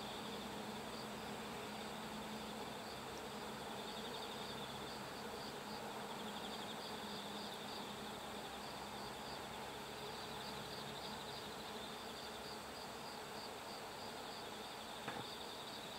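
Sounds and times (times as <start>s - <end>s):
faint outdoor hiss: 0.0s - 15.9s
insects chirping: 0.0s - 15.9s.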